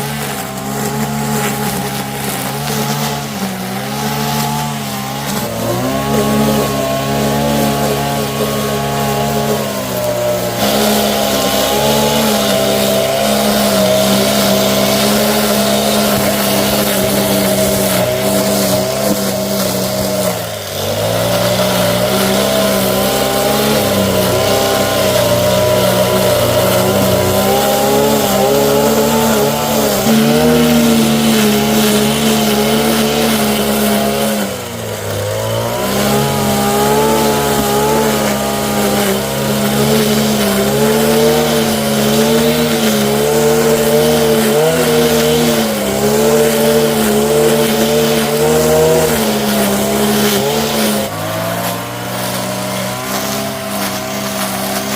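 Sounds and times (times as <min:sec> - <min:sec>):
engine running under load: 0:00.0 - 0:54.9.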